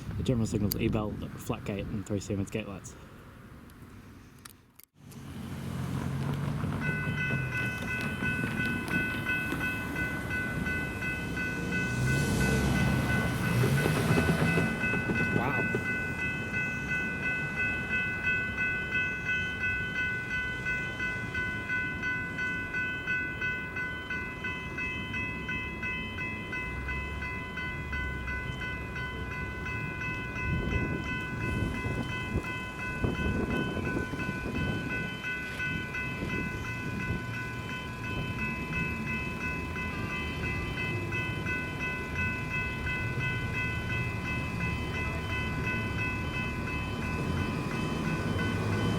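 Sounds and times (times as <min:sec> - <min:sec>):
train rumbling and clattering: 0:05.7 - 0:48.9
level crossing bells ringing: 0:06.8 - 0:48.9.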